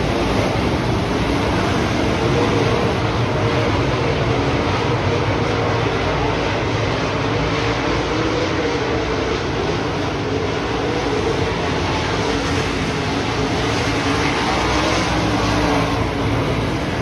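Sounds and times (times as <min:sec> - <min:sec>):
race car engines roaring: 0:00.0 - 0:17.0.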